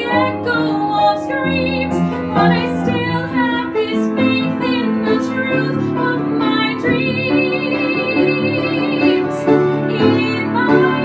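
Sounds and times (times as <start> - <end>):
instrumental accompaniment: 0.0 - 11.0
woman singing a long note: 0.0 - 11.0.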